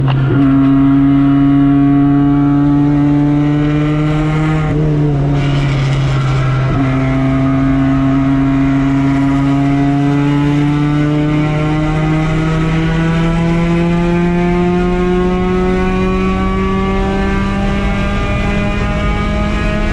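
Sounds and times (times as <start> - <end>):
race car engine running hard: 0.0 - 19.9.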